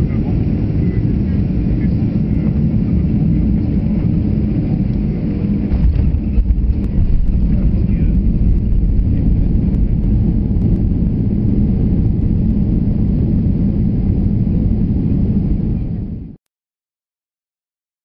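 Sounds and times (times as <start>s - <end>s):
airliner engines and wheels rumbling: 0.0s - 16.4s.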